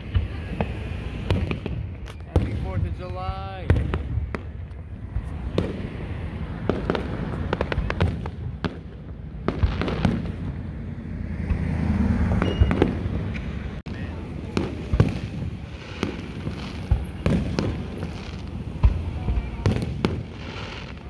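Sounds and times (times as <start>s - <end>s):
fireworks bursting with sharp bangs: 0.0s - 21.0s.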